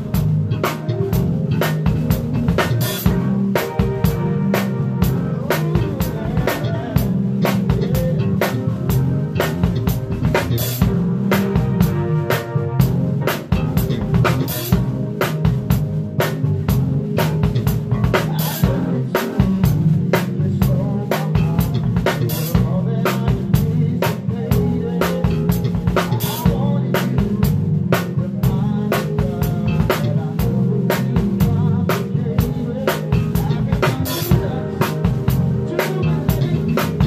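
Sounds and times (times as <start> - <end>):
drum kit playing: 0.0 - 37.0
live band playing funk: 0.0 - 37.0.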